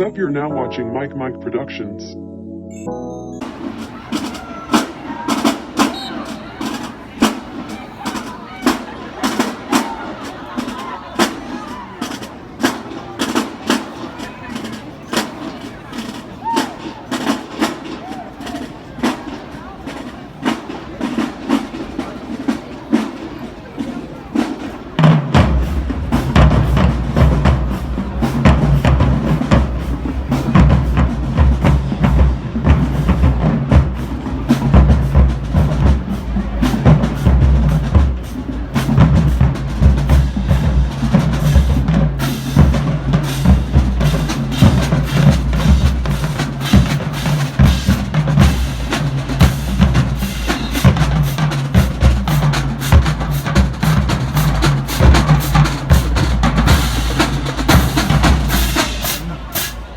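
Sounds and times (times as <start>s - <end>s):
snare drum strokes: 3.4s - 59.9s.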